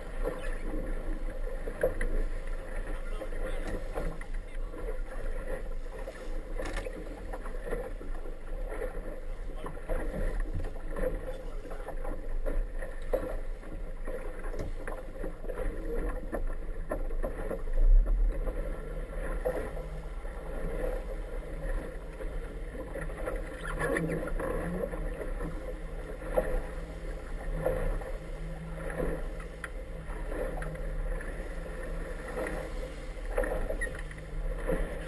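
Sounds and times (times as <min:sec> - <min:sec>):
hull knocking on waves: 0:00.0 - 0:35.0
rushing water: 0:00.0 - 0:35.0.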